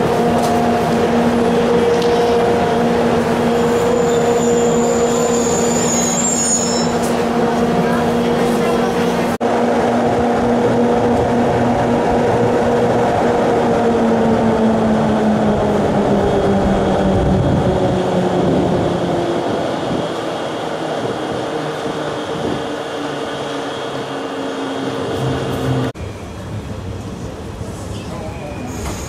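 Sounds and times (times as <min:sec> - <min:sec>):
rail rumble: 0:00.0 - 0:29.0
train hum slowing down: 0:00.0 - 0:29.0.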